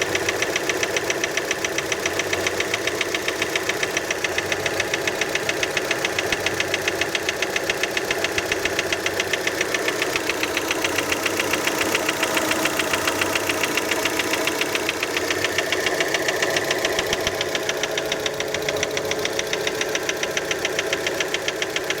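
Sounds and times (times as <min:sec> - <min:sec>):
car engine idling with knock: 0:00.0 - 0:22.0.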